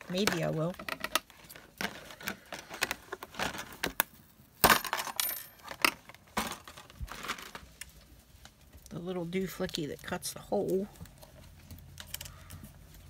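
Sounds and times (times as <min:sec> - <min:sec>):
clicks and rustles of packaging: 0:00.0 - 0:09.0, 0:09.7 - 0:13.0.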